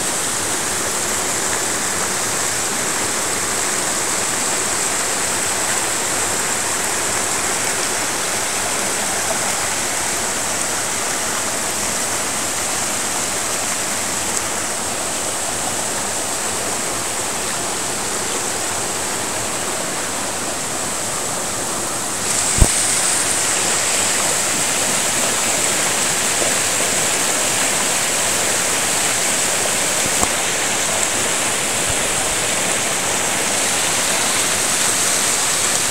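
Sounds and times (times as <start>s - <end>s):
stream over rocks: 0.0s - 35.9s.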